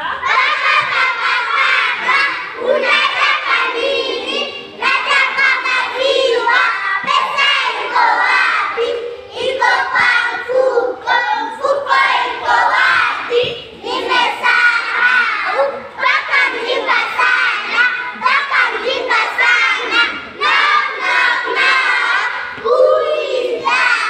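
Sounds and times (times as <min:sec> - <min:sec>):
children chanting in unison: 0:00.0 - 0:24.0.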